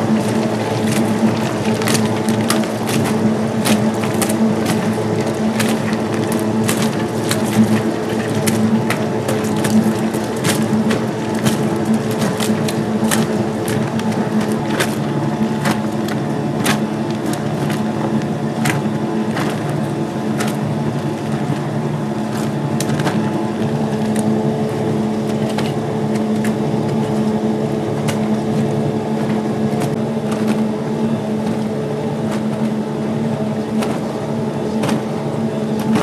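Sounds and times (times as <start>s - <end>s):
washing machine motor hum: 0.0s - 36.0s.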